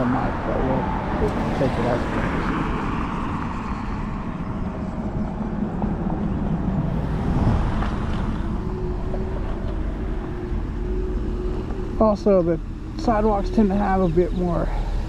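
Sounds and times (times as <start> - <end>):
scooter rolling rumble: 0.0 - 15.0
wind buffeting microphone: 0.0 - 15.0.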